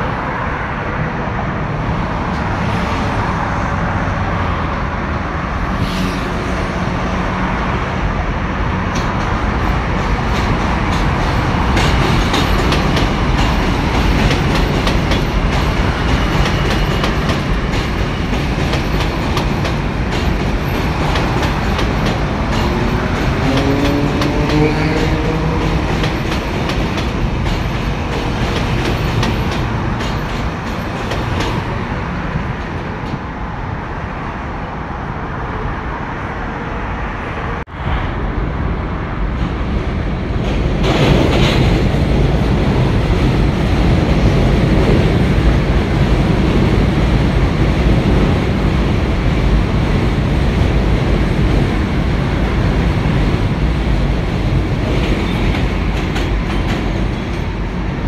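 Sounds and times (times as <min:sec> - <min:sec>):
subway train rumbling on bridge: 0:00.0 - 0:58.0.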